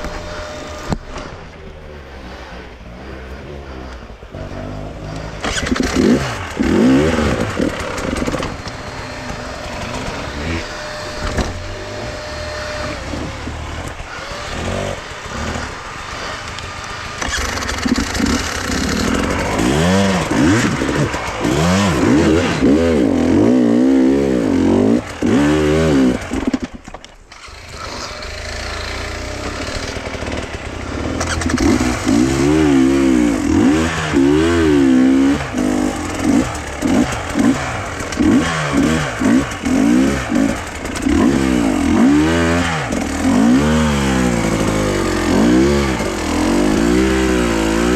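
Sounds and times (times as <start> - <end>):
small engine revving: 0.0 - 47.9.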